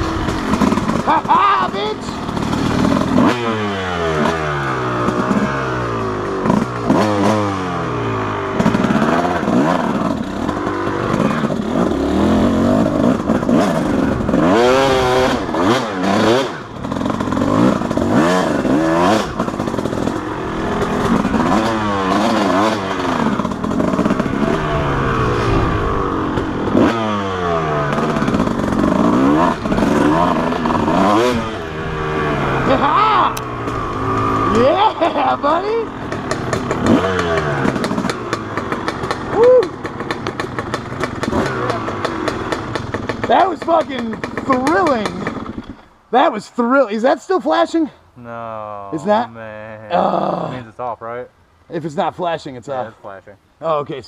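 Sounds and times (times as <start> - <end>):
dirt bike engine revving: 0.0 - 46.3.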